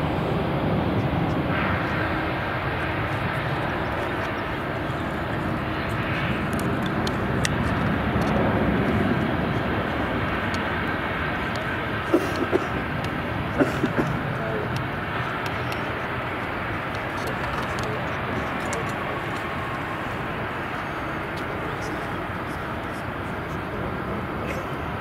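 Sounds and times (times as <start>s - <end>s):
faint high engine whine: 0.0s - 25.0s
jet engines rumbling: 0.0s - 25.0s.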